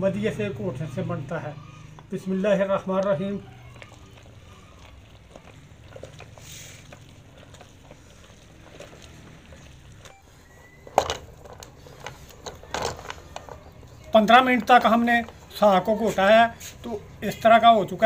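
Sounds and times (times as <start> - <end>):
wooden masher mashing greens: 1.9 - 18.0.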